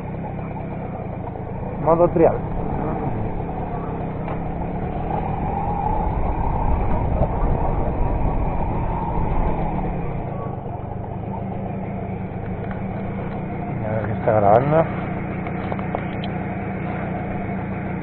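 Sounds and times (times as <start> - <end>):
moped engine running: 0.0 - 18.0.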